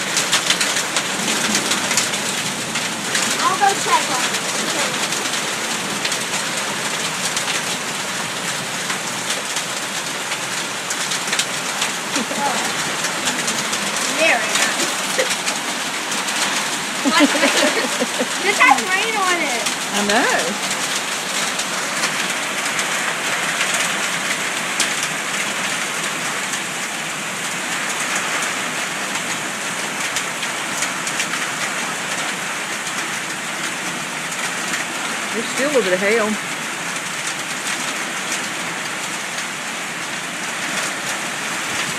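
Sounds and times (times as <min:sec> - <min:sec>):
heavy rain on hard surfaces: 0:00.0 - 0:41.9.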